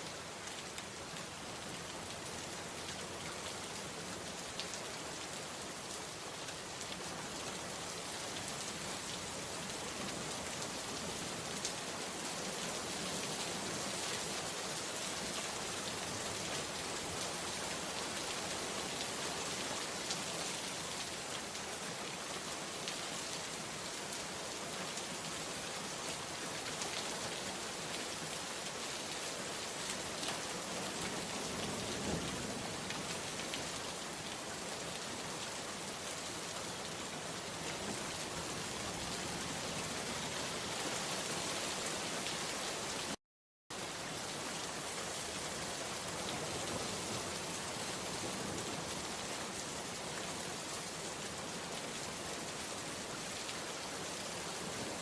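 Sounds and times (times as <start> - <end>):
heavy rain falling: 0.2 - 43.2, 43.8 - 55.0.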